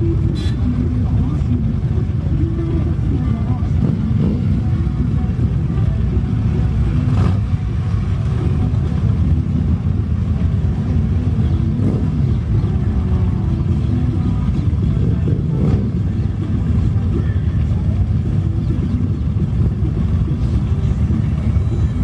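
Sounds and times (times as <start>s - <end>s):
motorcycle engines rumbling: 0.0s - 22.0s.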